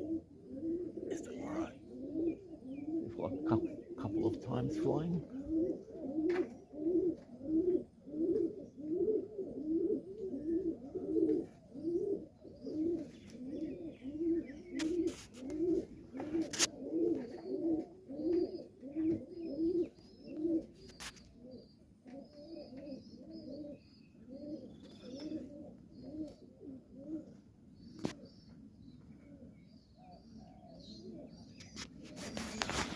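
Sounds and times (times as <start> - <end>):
pigeons cooing: 0.0 - 32.9
small birds chirping: 0.9 - 7.8, 9.6 - 32.9.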